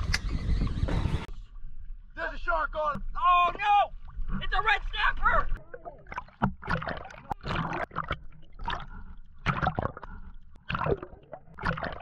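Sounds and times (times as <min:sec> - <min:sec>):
water gurgling and sloshing: 0:00.0 - 0:12.0.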